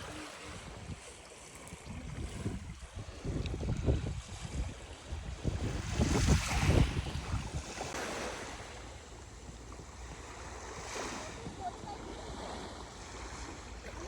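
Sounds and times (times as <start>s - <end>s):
sea waves washing onto sand: 0.0s - 14.0s
wind buffeting microphone: 0.0s - 14.0s.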